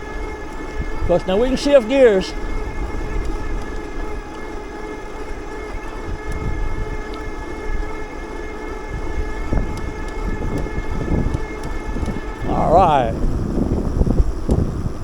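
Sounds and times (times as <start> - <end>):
bicycle drive whine: 0.0 - 15.0
wind rumbling on microphone: 0.0 - 15.0.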